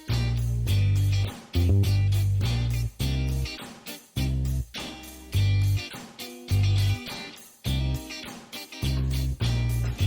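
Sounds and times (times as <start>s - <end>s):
guitar-led music with punchy bass: 0.0s - 10.0s.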